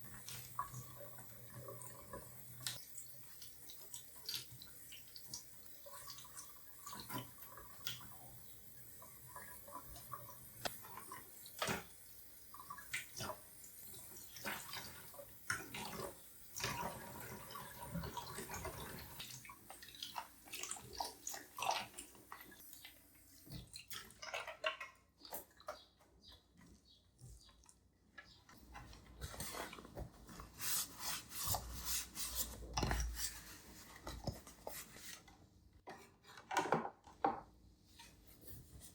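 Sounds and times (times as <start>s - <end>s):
faint running water: 0.0s - 36.3s.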